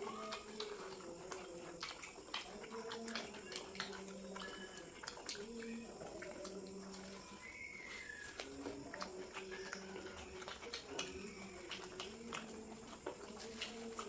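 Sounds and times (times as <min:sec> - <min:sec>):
people chewing with wet smacks: 0:00.0 - 0:14.0.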